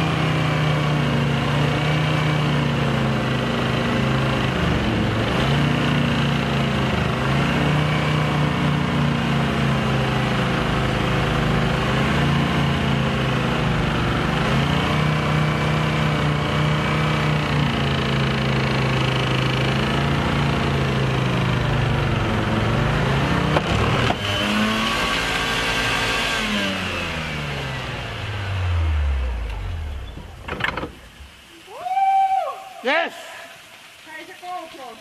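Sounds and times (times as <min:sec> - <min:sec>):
car engine running under load: 0:00.0 - 0:31.6.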